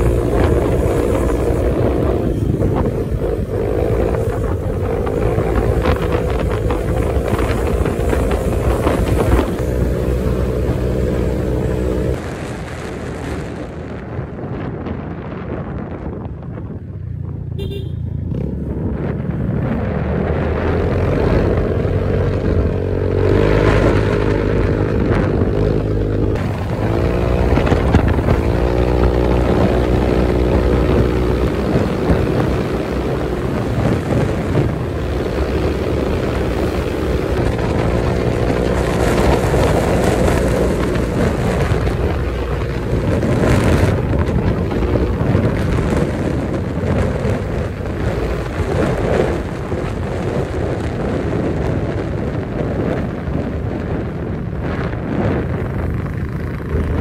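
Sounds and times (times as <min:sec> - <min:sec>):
scooter engine running: 0:00.0 - 0:13.8, 0:17.0 - 0:57.0
wind rushing over microphone: 0:00.0 - 0:57.0.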